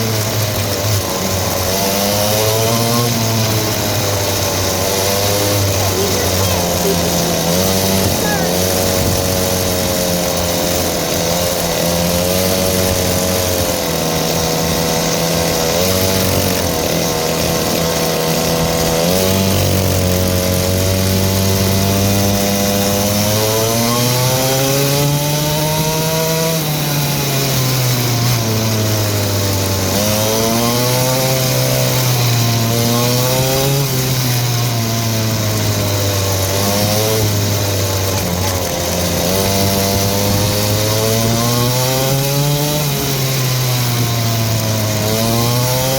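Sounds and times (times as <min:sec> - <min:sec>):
dirt bike engine running: 0:00.0 - 0:45.9.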